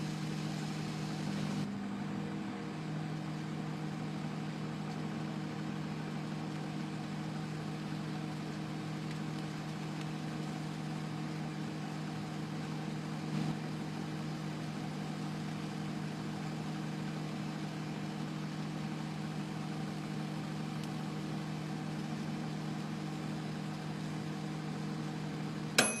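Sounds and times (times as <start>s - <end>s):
microwave oven humming: 0.0s - 26.0s.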